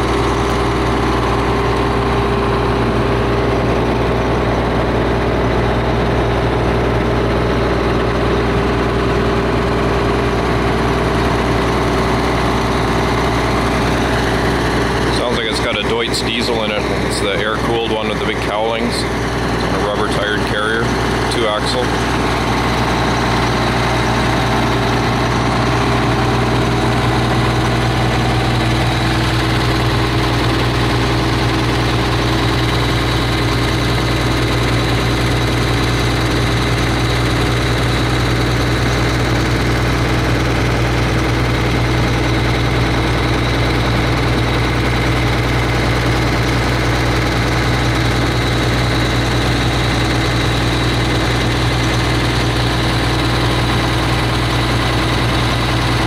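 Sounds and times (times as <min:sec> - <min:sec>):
diesel excavator engine running: 0:00.0 - 0:56.0.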